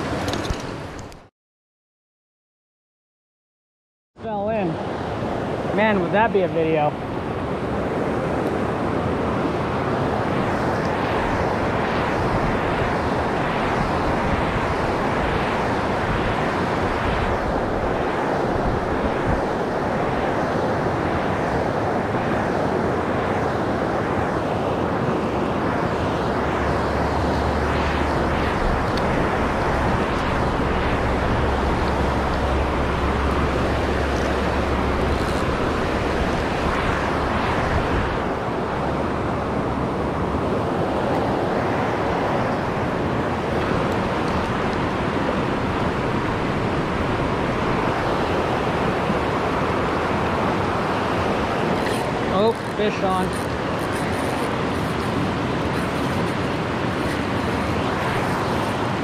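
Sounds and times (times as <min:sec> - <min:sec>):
river water rushing: 0:11.4 - 0:59.0.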